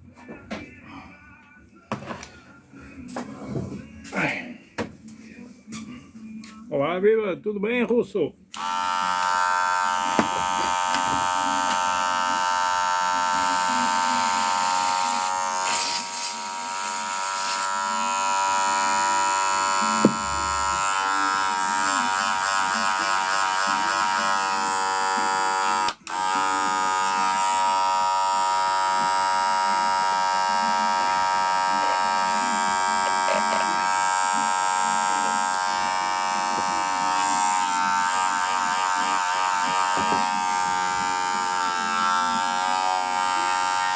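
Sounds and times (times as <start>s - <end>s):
electric hair clipper buzzing: 8.5s - 43.9s.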